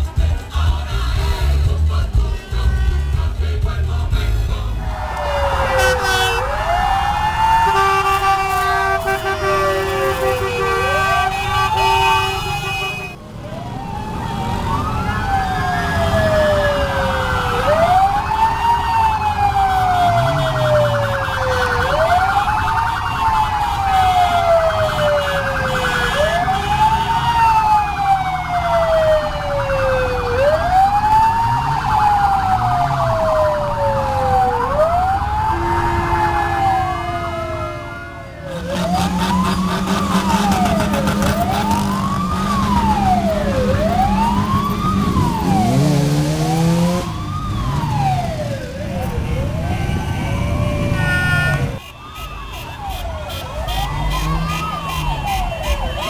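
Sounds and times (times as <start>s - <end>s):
electronic sirens wailing: 4.8s - 56.0s.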